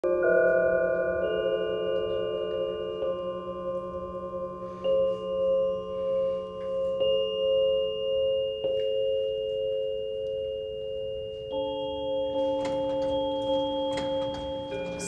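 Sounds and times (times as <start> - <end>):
sustained bell-like electronic tones: 0.0 - 15.0.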